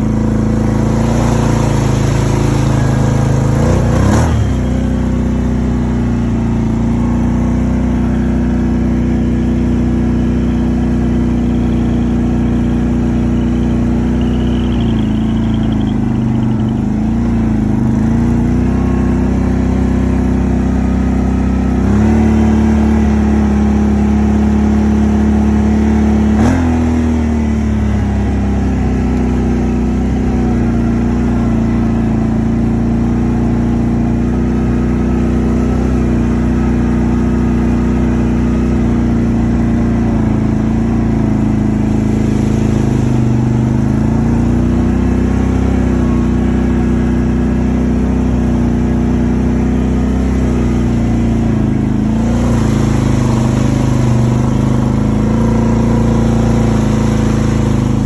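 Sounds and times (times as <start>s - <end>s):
atv engine running under load: 0.0s - 58.0s
mud and water spraying: 0.0s - 58.0s.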